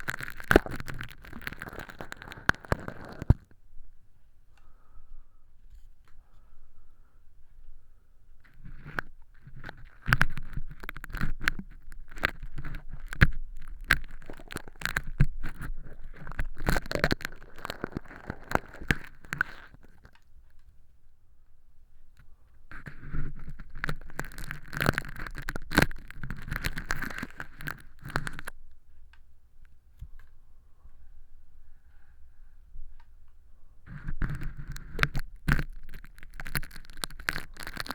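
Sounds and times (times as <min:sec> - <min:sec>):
crinkly film crackling and scraping: 0:00.0 - 0:03.7, 0:05.6 - 0:06.6, 0:07.4 - 0:20.9, 0:21.9 - 0:31.0, 0:33.8 - 0:37.9.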